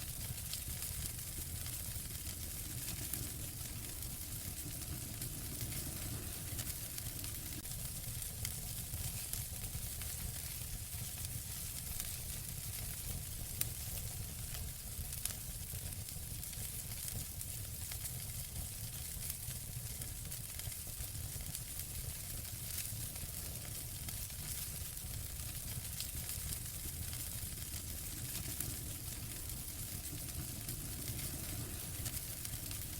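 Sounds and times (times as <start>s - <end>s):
hiss and rumble of flames: 0.0s - 32.9s
wood fire crackles and pops: 0.0s - 32.9s.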